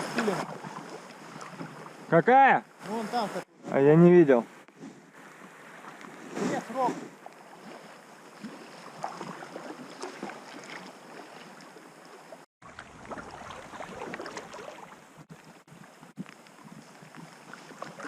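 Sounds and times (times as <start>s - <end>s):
water splashing around a raft: 0.0s - 3.5s, 5.0s - 18.0s.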